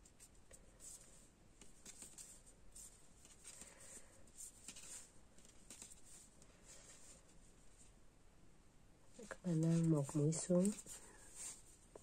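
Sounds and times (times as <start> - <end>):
knitting needles rustling yarn: 0.0 - 8.0, 9.1 - 12.0.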